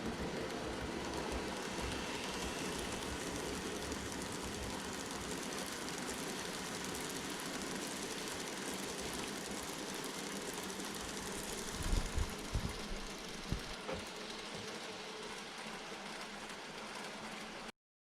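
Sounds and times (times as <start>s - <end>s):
model train rolling on track: 0.0s - 17.7s.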